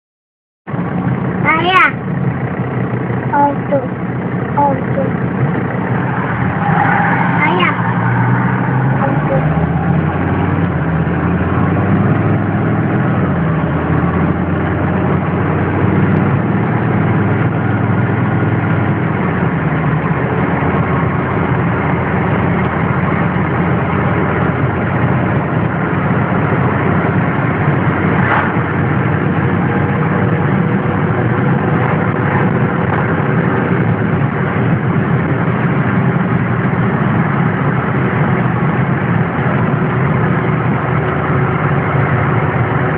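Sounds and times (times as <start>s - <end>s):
diesel engine idling: 0.7s - 42.9s.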